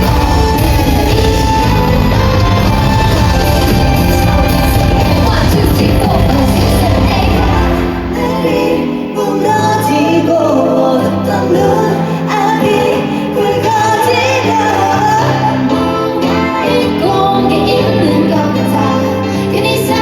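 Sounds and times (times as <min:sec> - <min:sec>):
female vocals singing pop song: 0:00.0 - 0:20.0
pop backing track: 0:00.0 - 0:20.0.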